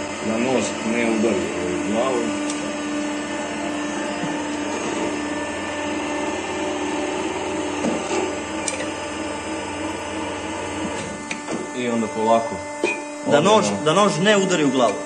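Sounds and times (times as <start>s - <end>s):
milling machine motor whirring: 0.0s - 15.0s.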